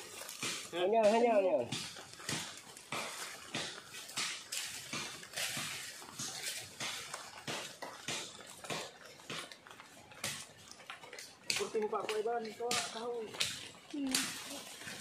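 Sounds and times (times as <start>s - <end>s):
machete chopping: 0.0s - 10.6s, 11.4s - 15.0s.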